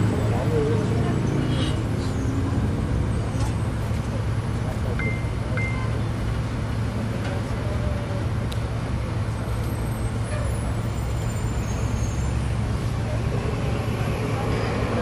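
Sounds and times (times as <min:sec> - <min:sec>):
road traffic noise: 0:00.0 - 0:15.0
tramway cabin hum and rumble: 0:00.0 - 0:15.0.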